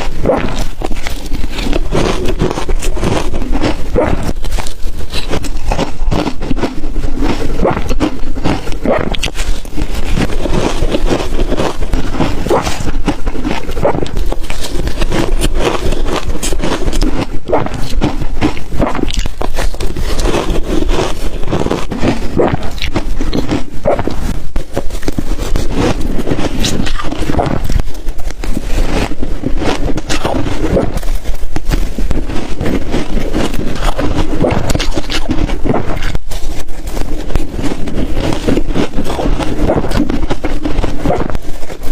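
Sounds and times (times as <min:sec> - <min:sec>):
ice crunching between teeth: 0:00.0 - 0:41.9.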